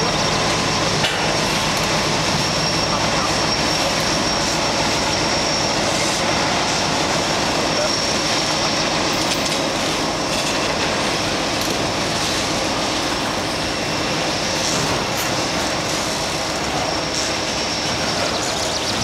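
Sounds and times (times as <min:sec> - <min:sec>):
high steady squeal: 0:00.0 - 0:19.0
train wheels rumbling on rail: 0:00.0 - 0:19.0.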